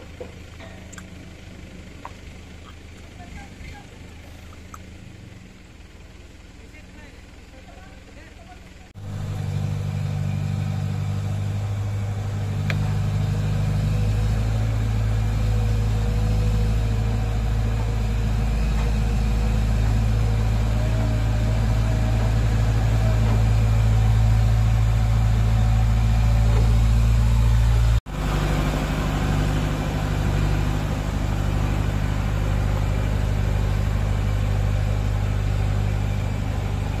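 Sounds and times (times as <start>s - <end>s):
diesel engine humming: 0.0s - 37.0s.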